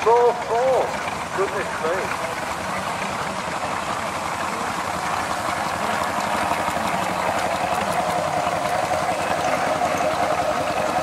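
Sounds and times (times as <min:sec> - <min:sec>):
steam engine exhaust beat: 0:00.0 - 0:11.0.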